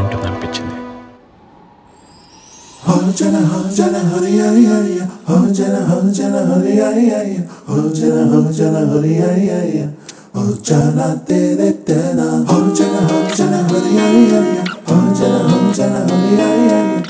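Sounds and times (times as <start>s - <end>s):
person singing: 2.8s - 17.0s.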